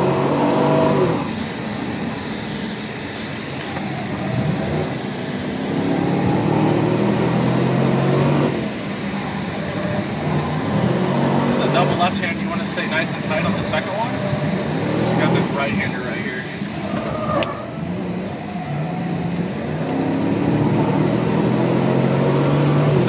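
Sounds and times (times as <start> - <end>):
car engine pulling hard: 0.0 - 23.0.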